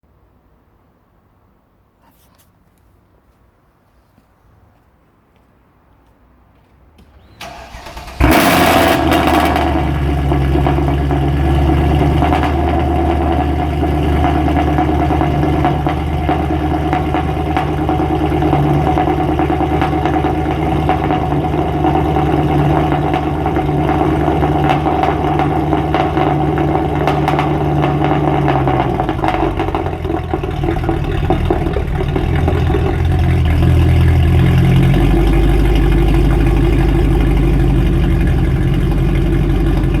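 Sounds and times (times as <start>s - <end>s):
engine humming: 7.0s - 40.0s.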